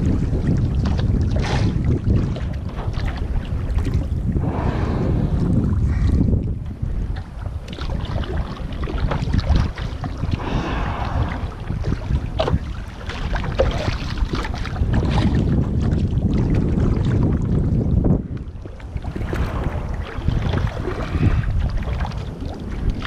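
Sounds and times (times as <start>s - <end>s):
water slapping against hull: 0.0s - 23.0s
wind buffeting microphone: 0.0s - 23.0s.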